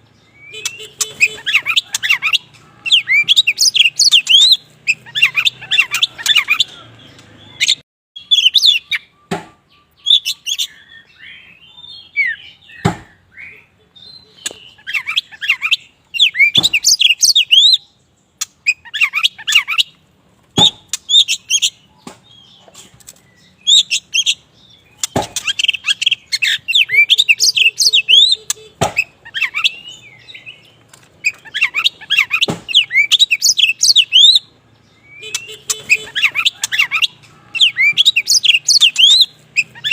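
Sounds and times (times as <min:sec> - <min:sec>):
bird singing chirps and whistles: 0:00.0 - 0:06.8, 0:07.4 - 0:20.0, 0:20.6 - 0:22.6, 0:23.2 - 0:39.9.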